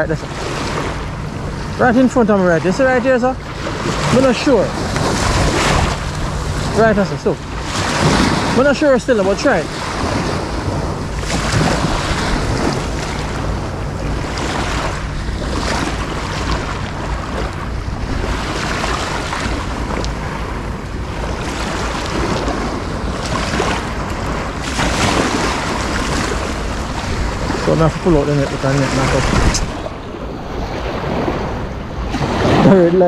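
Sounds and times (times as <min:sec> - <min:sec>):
small waves washing on shore: 0:00.0 - 0:33.0
wind rumble on microphone: 0:00.0 - 0:33.0.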